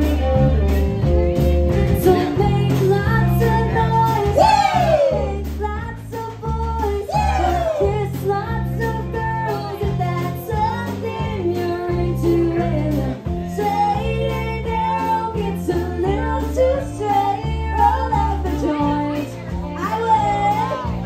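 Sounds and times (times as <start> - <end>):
bass line: 0.0 - 21.0
guitar: 0.0 - 21.0
woman singing: 1.7 - 21.0.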